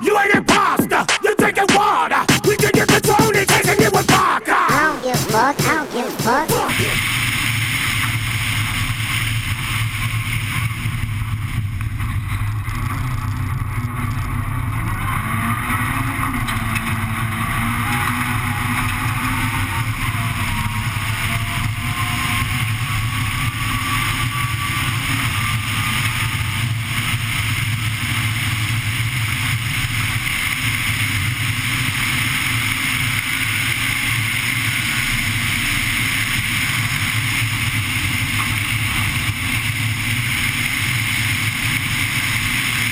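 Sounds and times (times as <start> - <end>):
rally car engine running hard: 7.0 - 42.9
gravel rumbling under tyres: 7.2 - 42.9.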